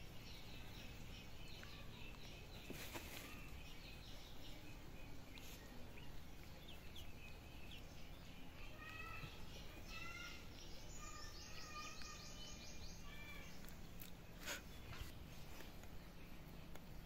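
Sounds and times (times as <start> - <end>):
birds calling: 0.0 - 17.0
outdoor background noise: 0.0 - 17.0.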